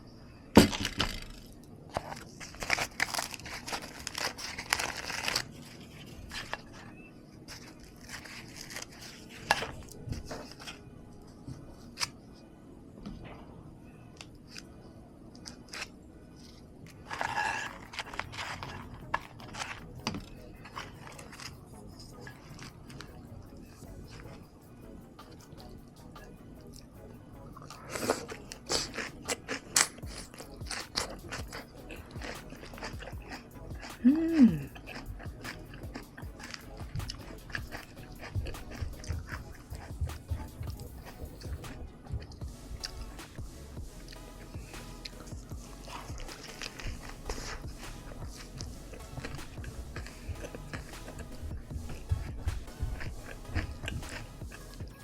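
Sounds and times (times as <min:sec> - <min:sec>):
crunching chips being chewed: 0:00.6 - 0:12.2, 0:15.3 - 0:24.6, 0:25.2 - 0:43.3, 0:44.0 - 0:55.0.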